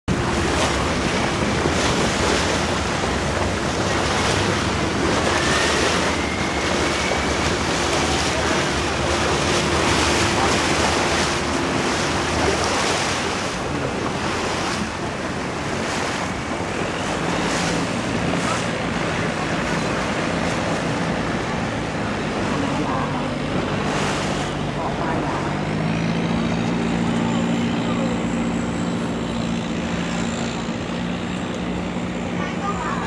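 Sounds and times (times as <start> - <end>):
low engine rumble: 0.0 - 33.0
water rushing past boat: 0.0 - 33.0.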